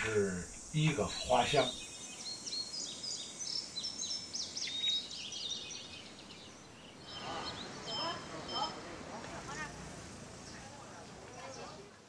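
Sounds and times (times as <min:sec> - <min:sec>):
faint background noise: 0:00.0 - 0:12.0
small birds chirping: 0:00.0 - 0:12.0.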